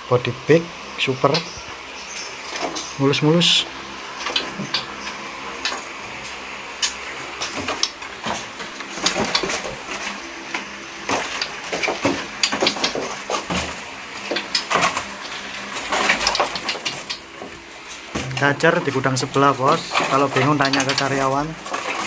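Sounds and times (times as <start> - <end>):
birds tapping against cage bars: 1.3 - 3.0, 4.1 - 22.0.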